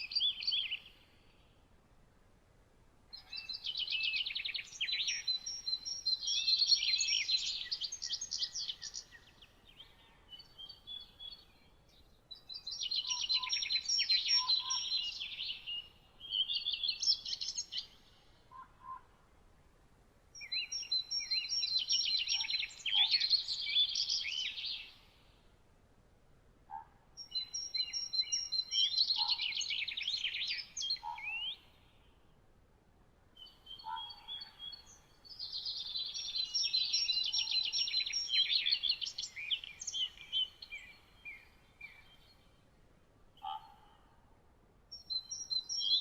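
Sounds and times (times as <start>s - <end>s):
songbird singing: 0.0s - 2.0s, 3.0s - 46.0s.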